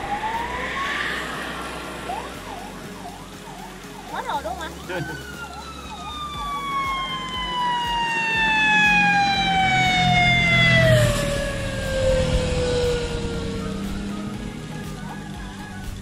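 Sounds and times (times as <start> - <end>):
motorcycle engine passing: 0.0 - 16.0
vehicle siren wailing: 0.0 - 16.0.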